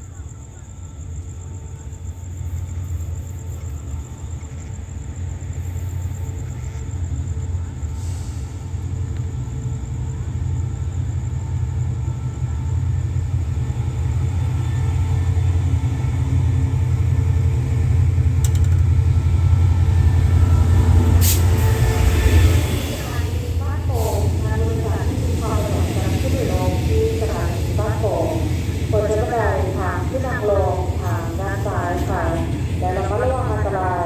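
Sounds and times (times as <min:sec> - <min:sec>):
diesel locomotive engine rumble: 0:00.0 - 0:34.0.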